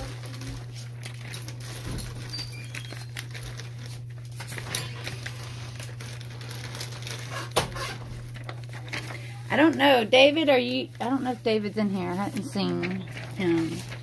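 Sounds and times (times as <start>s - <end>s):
handling noises: 0.0s - 14.0s
steady low hum: 0.0s - 14.0s.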